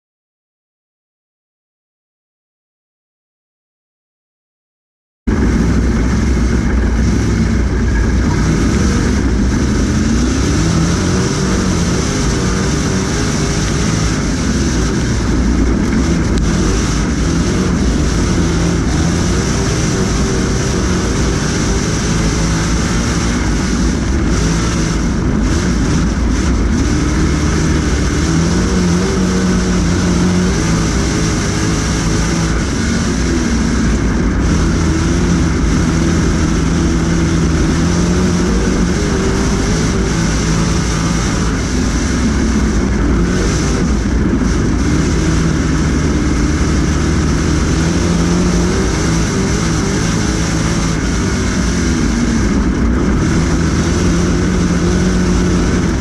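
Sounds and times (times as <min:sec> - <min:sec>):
race car engine revving: 0:05.3 - 0:56.0.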